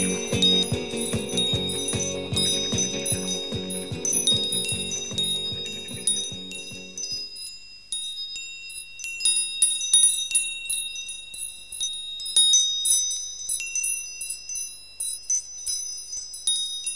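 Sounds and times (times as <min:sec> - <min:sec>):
metal chimes tinkling: 0:00.0 - 0:16.9.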